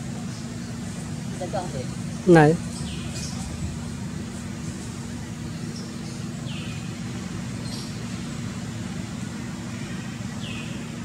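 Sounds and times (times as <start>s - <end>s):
constant hum: 0.0s - 11.0s
low background rumble: 0.0s - 11.0s.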